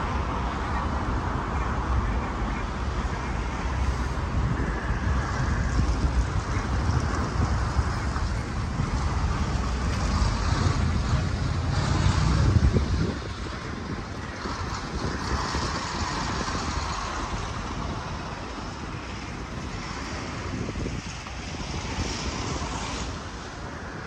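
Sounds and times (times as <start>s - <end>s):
heavy low rumble: 0.0s - 23.7s
cars passing on road: 0.0s - 24.0s
traffic hiss: 0.0s - 24.0s.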